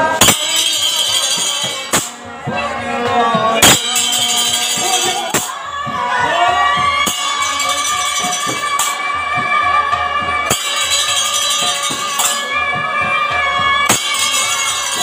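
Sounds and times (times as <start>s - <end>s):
jingling hand percussion: 0.0s - 15.0s
sharp percussion strike: 0.0s - 15.0s.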